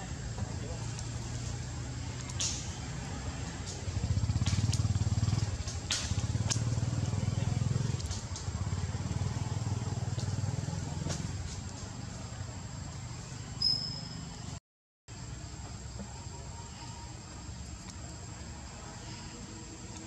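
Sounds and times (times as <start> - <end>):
low engine rumble: 0.0 - 13.6, 14.2 - 20.0.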